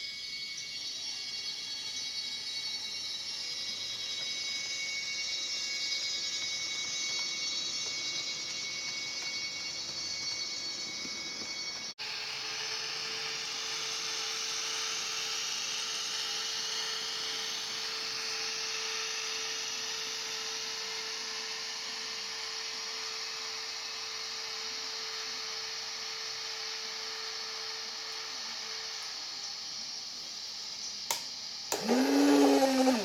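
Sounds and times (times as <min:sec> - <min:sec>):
model locomotive whine: 0:00.0 - 0:33.0.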